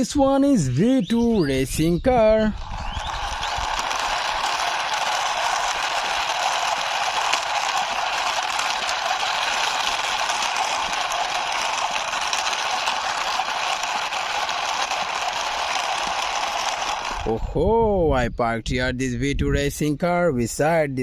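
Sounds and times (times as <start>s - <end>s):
toy car wheels rattling: 0.0s - 17.6s.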